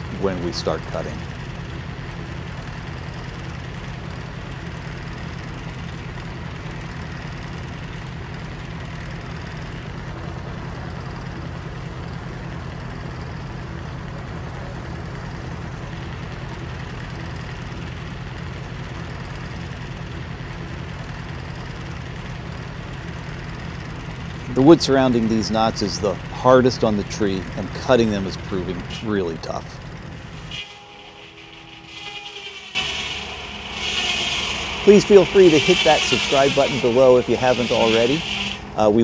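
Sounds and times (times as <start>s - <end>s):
circular saw cutting log: 0.0s - 9.9s, 14.8s - 39.0s
engine running under load: 0.0s - 39.0s.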